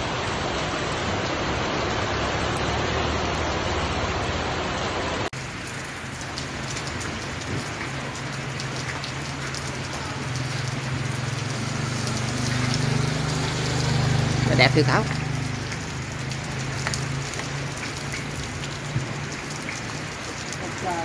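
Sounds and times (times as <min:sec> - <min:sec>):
heavy rain pouring: 0:00.0 - 0:21.0
light rain pattering on street: 0:00.0 - 0:21.0.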